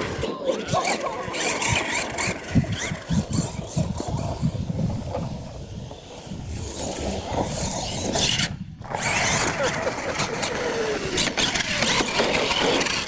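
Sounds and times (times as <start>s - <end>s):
rc monster truck motor: 0.0s - 13.0s
tyres on loose dirt: 0.0s - 13.0s.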